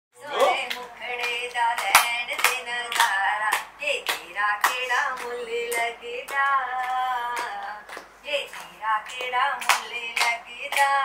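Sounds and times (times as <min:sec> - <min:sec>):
women singing: 0:00.2 - 0:11.0
hand claps: 0:00.4 - 0:11.0.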